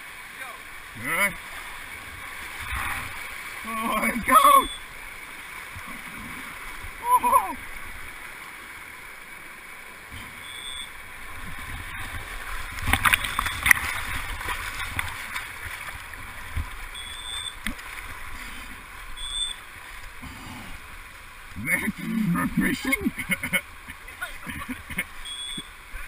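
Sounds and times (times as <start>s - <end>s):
river water rushing and splashing: 0.0s - 26.0s.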